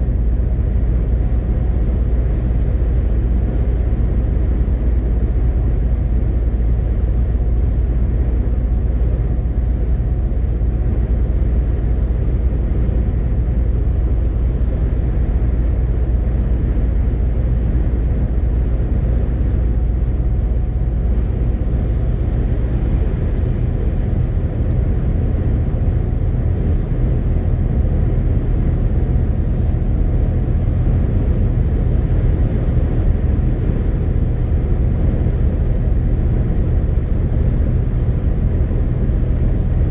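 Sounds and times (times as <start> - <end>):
diesel truck engine running: 0.0 - 39.9
road and tyre noise: 0.0 - 39.9.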